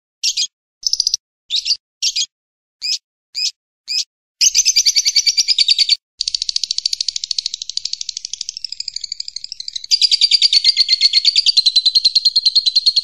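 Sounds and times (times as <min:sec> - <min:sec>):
buzzy bird chirps: 0:00.2 - 0:13.0
rapid bird trill: 0:00.2 - 0:13.0.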